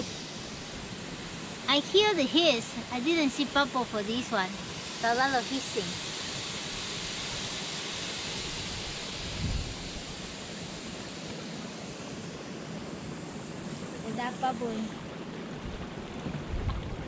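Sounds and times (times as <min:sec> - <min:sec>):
steam hissing from a vent: 0:00.0 - 0:15.3.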